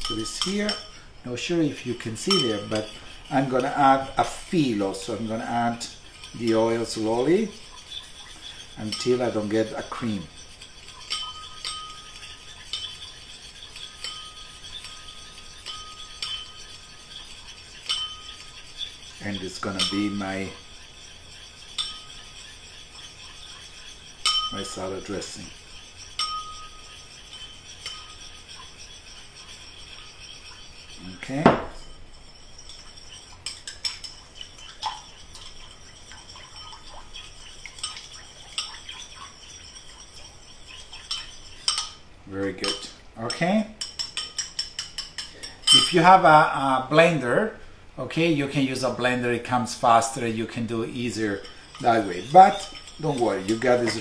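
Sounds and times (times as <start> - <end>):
utensil clinking against bowl: 0.0 - 46.3, 49.8 - 54.0
whisking in a bowl: 0.0 - 47.5, 48.1 - 54.0.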